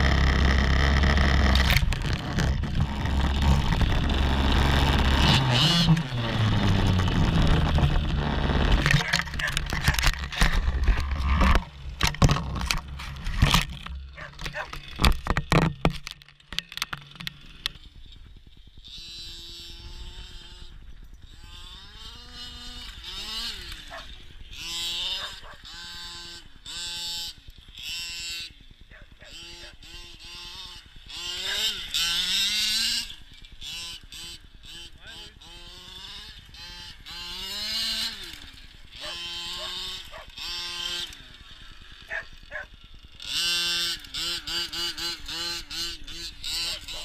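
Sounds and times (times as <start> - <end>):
small two-stroke engine revving: 0.0 - 47.0.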